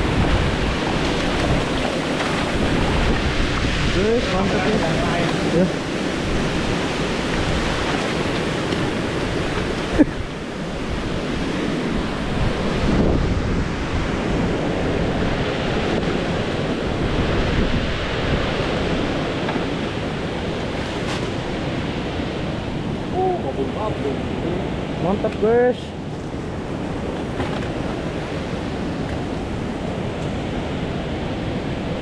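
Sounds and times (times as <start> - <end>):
river rushing over rocks: 0.0 - 32.0
wind on microphone: 0.0 - 32.0.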